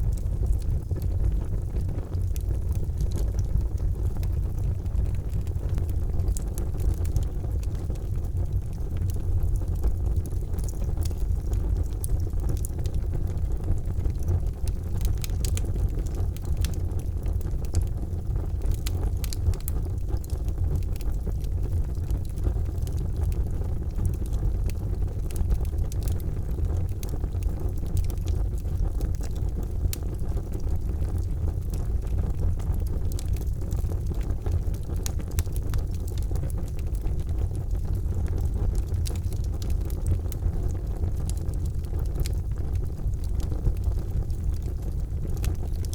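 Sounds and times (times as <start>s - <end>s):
fire crackling and popping: 0.0s - 45.9s
fire low rumble: 0.0s - 45.9s.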